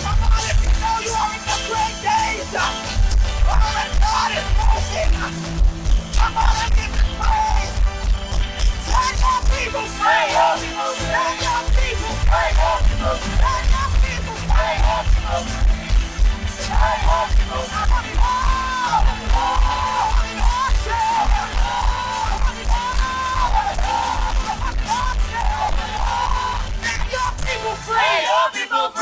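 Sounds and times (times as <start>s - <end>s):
band with heavy bass beat: 0.0s - 29.0s
gospel singing voices: 0.0s - 29.0s.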